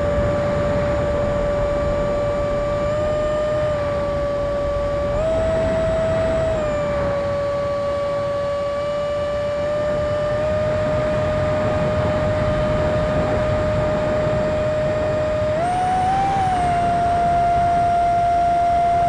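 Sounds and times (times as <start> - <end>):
electric ducted fan whining: 0.0 - 19.0.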